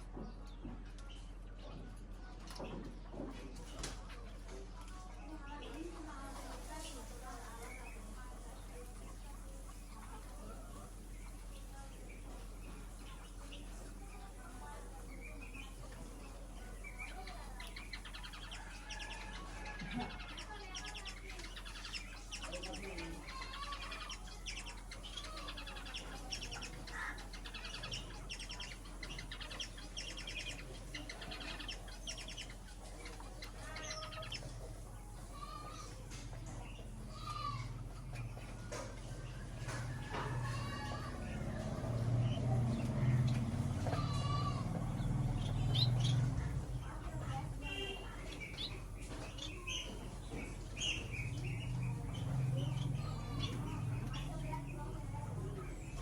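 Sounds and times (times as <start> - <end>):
cage birds chirping: 0.0 - 56.0.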